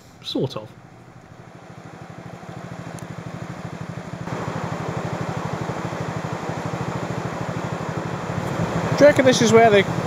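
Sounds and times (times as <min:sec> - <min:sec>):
motorcycle engine idling: 0:00.4 - 0:10.0.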